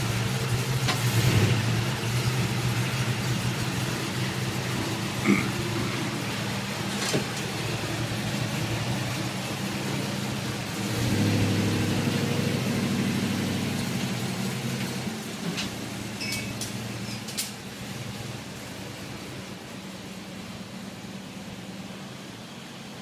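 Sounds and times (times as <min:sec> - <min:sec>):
car engine running at low speed: 0:00.0 - 0:23.0.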